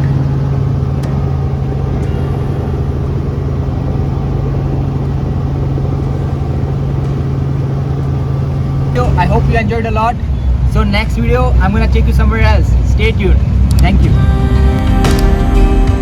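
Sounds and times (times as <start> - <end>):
helicopter engine and rotors drone: 0.0 - 15.5.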